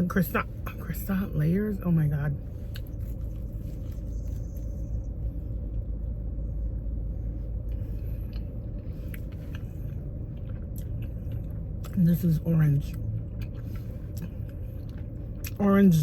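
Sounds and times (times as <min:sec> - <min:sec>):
low rumble inside car cabin: 0:00.0 - 0:16.0.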